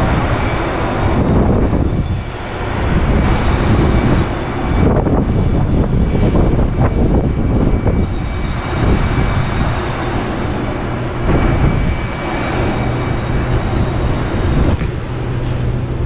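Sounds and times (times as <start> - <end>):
low hum: 0.0 - 16.0
wind buffeting microphone: 0.0 - 16.0.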